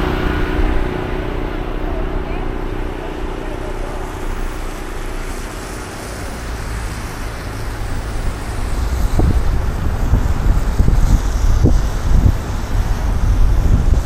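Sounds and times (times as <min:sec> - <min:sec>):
passing cars rumbling: 0:00.0 - 0:14.0
wind buffeting microphone: 0:00.0 - 0:14.0.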